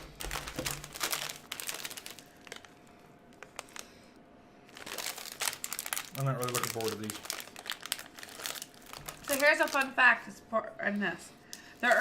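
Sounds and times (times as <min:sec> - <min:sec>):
plastic wrapper crinkling: 0:00.0 - 0:03.9, 0:04.7 - 0:10.2, 0:11.5 - 0:12.0.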